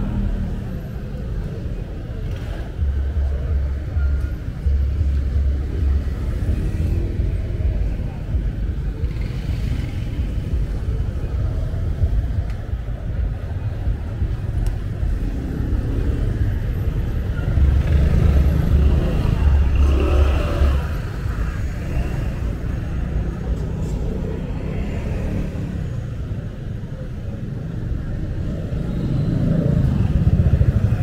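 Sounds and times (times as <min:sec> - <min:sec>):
traffic jam engines rumbling: 0:00.0 - 0:31.0.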